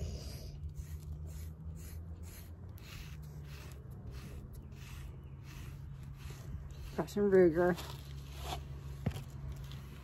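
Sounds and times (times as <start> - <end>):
brush scratching through dog fur: 0.1 - 10.0.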